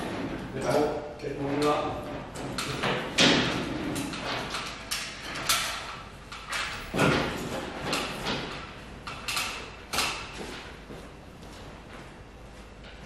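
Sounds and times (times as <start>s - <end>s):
knocks and clatters of handling: 0.0s - 10.8s.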